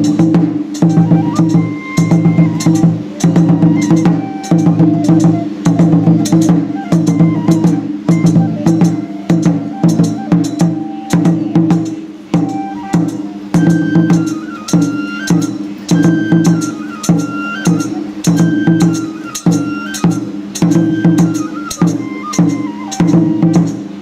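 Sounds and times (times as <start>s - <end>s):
bamboo flute melody: 0.0s - 24.0s
drums beaten in steady pattern: 0.0s - 24.0s.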